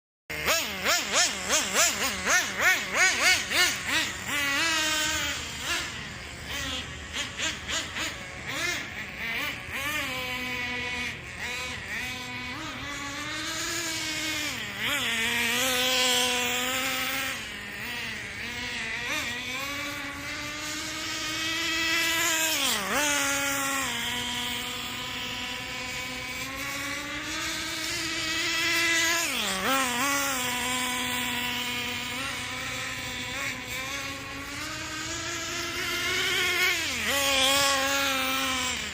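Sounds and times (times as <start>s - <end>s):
small rc car engine revving: 0.3s - 38.9s.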